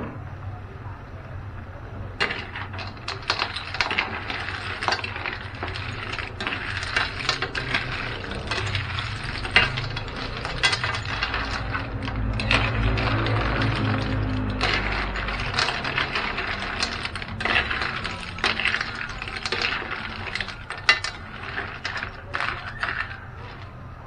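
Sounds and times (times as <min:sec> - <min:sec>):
snail shells clattering in a wok: 0:02.2 - 0:24.0.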